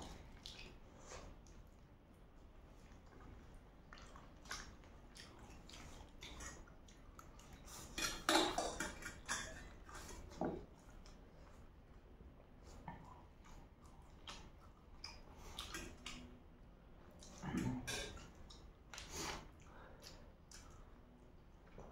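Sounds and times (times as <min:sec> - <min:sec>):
noodles slurped and chewed: 0:00.0 - 0:21.9.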